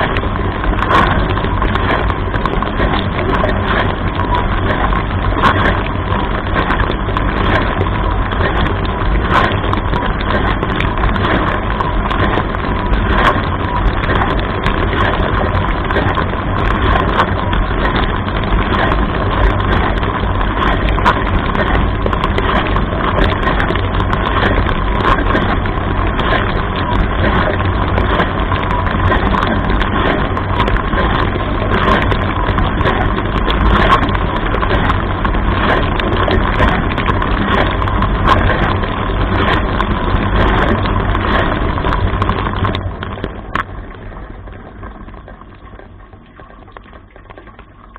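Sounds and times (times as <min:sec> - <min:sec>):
wash pump hum and whine: 0:00.0 - 0:47.9
water jets splashing and drumming: 0:00.0 - 0:47.9.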